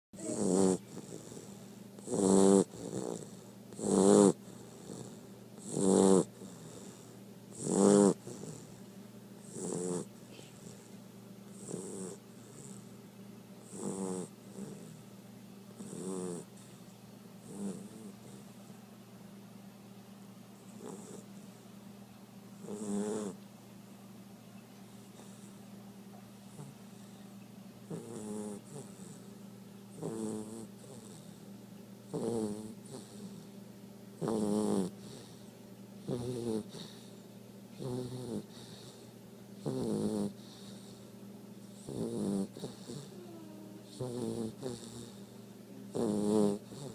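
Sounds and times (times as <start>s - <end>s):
puppy snoring: 0.2s - 13.0s, 13.6s - 18.8s, 20.5s - 22.0s, 22.6s - 23.5s, 24.8s - 46.9s.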